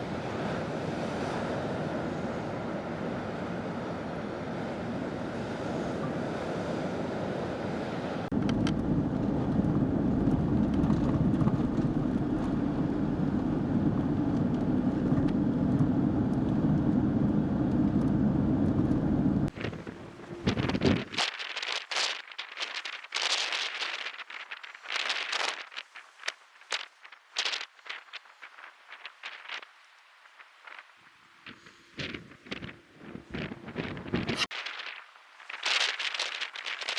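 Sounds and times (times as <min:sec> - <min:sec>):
wind blowing across microphone: 0:00.0 - 0:36.9.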